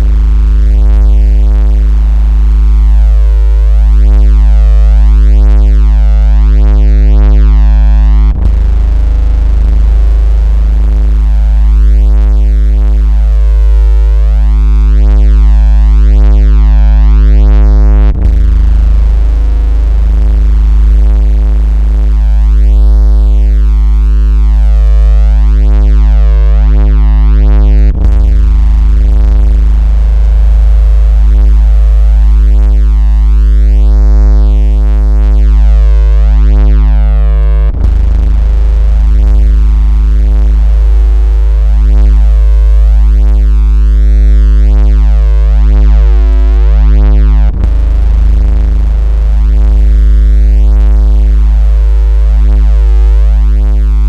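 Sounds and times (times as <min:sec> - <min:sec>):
synthesized bass tone: 0:00.0 - 0:54.0.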